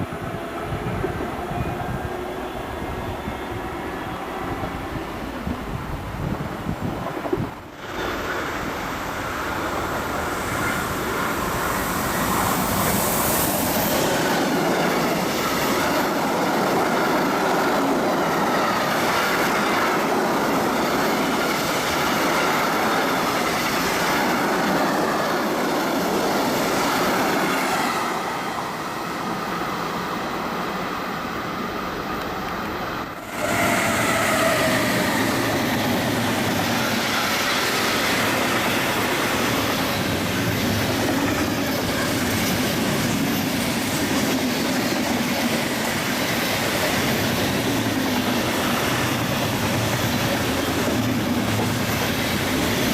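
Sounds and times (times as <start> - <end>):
freight train wheels rolling on rails: 0.0 - 52.9.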